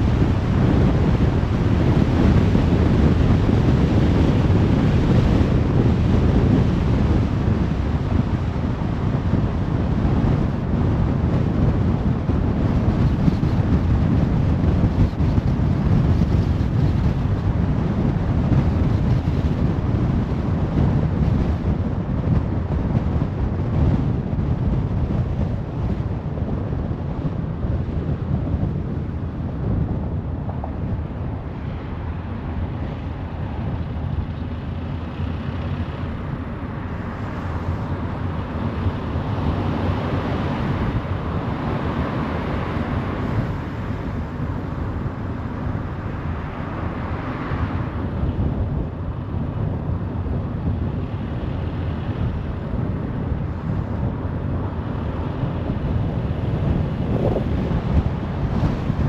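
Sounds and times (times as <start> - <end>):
rush of wind: 0.0 - 59.0
tyre and road noise: 0.0 - 59.0.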